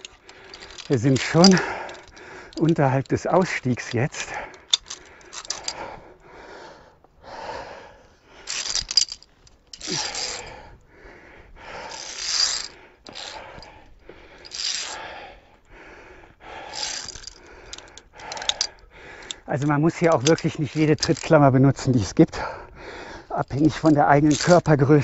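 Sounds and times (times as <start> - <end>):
carabiners clicking on steel cable: 0.0 - 6.3, 8.4 - 10.8, 11.7 - 25.0.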